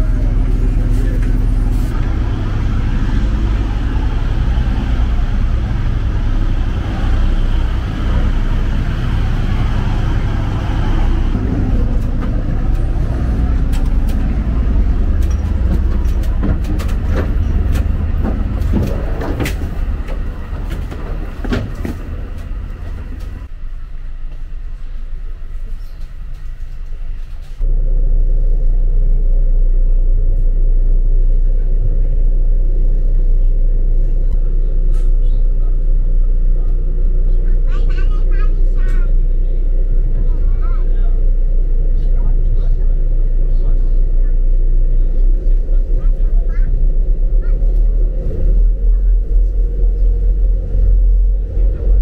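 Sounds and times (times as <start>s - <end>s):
ferry engines humming: 0.0s - 52.0s.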